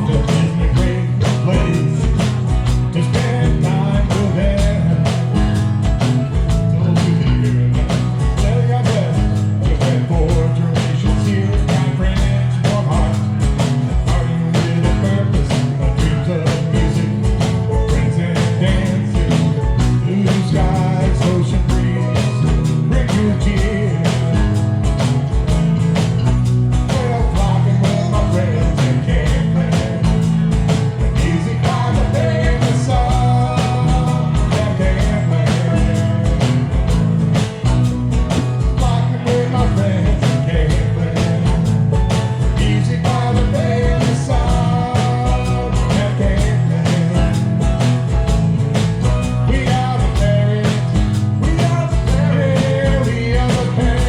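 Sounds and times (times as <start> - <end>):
live band music: 0.0 - 54.0
steady drum beat: 0.0 - 54.0.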